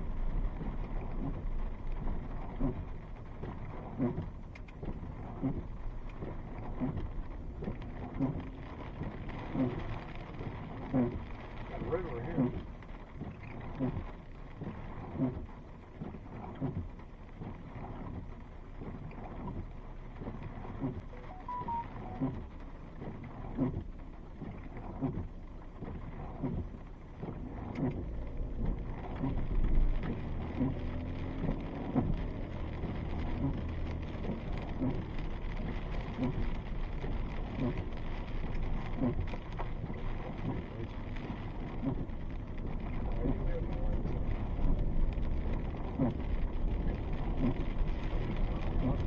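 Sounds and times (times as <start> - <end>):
rain: 0.0 - 49.0
taps of raindrops: 0.0 - 49.0.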